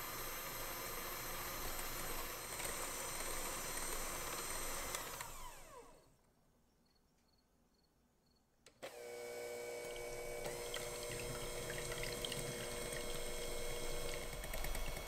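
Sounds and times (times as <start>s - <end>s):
electric hand mixer whisking: 0.0s - 6.0s, 8.9s - 15.0s.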